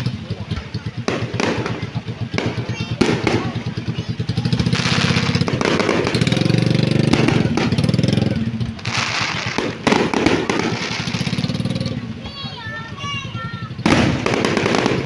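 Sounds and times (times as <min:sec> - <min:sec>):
crowd noise: 0:00.0 - 0:15.0
vehicle engine running: 0:00.0 - 0:15.0.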